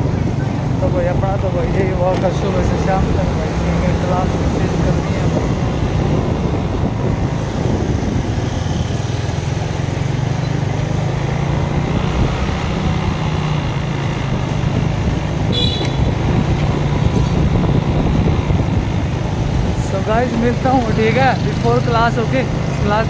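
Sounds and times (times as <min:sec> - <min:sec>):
city traffic: 0:00.0 - 0:23.0
motorbike engine hum: 0:00.0 - 0:23.0
wind and road noise: 0:00.0 - 0:23.0.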